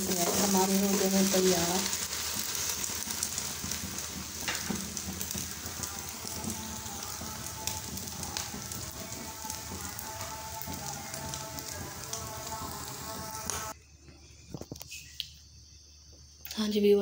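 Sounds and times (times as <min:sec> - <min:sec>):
bread frying in oil sizzling: 0:00.0 - 0:13.8.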